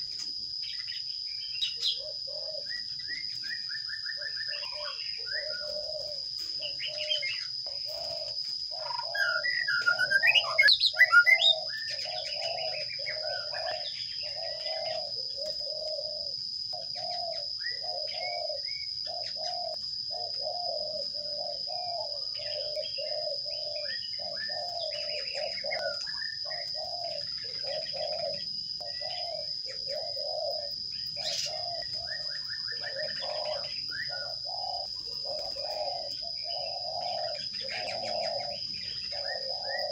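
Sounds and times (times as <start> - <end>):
low pulsing bird calls: 0.0 - 39.9
sparrows chirping: 0.0 - 39.9.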